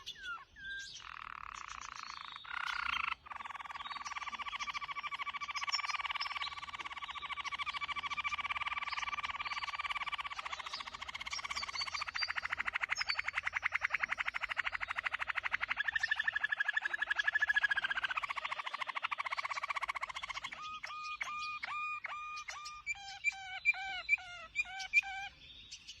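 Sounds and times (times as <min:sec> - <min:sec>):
bird trilling and whistling: 0:00.0 - 0:25.4.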